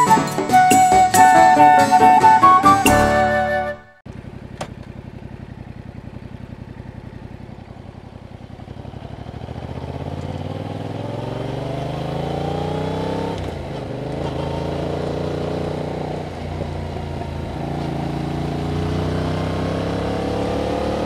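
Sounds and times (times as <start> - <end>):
motorcycle engine revving: 4.1 - 21.0.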